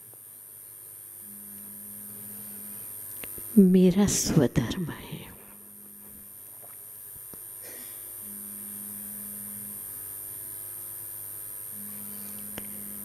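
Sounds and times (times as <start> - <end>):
faint high-pitched whine: 0.0 - 13.0
low mains hum: 0.0 - 13.0.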